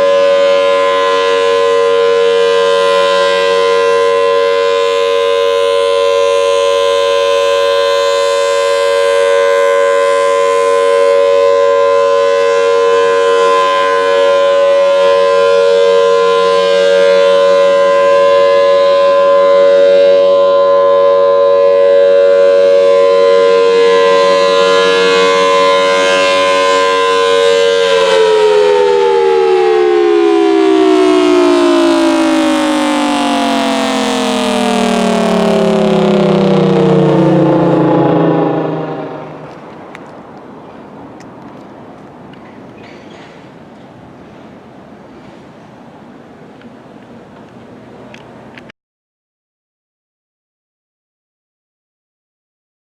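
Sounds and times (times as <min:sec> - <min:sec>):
outdoor warning siren: 0:00.0 - 0:42.4.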